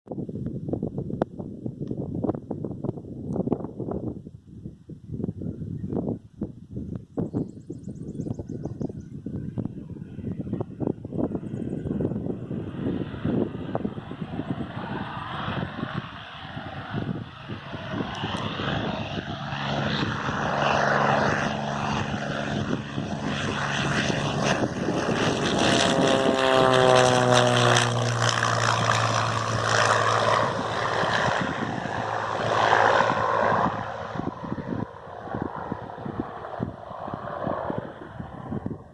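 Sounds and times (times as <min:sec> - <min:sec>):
propeller airplane passing low: 0:00.1 - 0:38.9.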